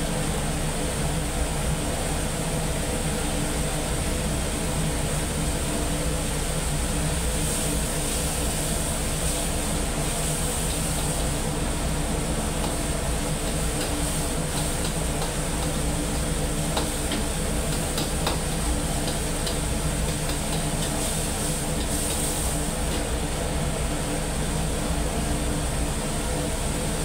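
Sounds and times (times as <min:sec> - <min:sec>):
egg and tomato sizzling in a wok: 0:00.0 - 0:27.0
gas burner rumble: 0:00.0 - 0:27.0.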